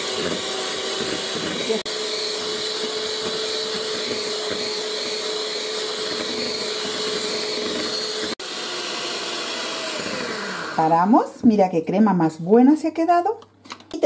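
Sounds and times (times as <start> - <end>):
electric hand mixer whisking: 0.0 - 11.4.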